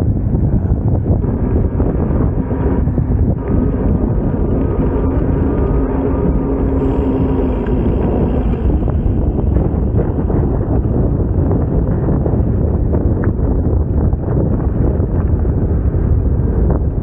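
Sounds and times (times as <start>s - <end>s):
faint engine hum: 0.0s - 17.0s
wind buffeting microphone: 0.0s - 17.0s.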